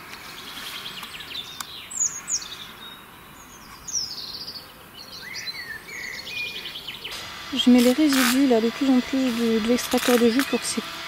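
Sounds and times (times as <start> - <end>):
small birds singing and calling: 0.0 - 11.0.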